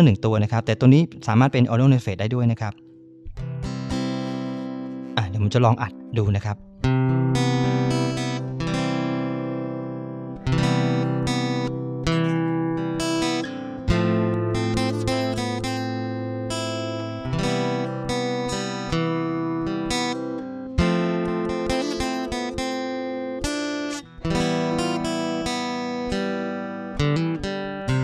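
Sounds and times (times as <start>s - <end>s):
guitar strummed chords: 2.4s - 28.0s.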